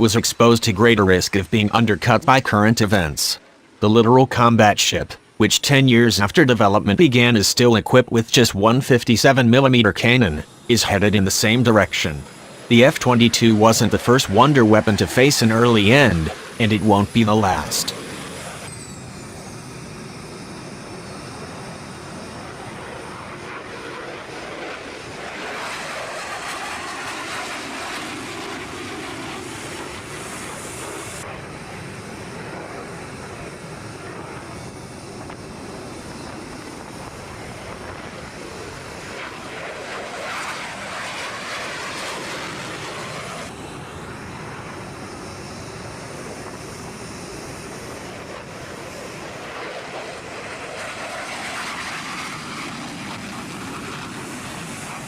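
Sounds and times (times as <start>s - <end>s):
aircraft engine rushing: 0.0s - 55.0s.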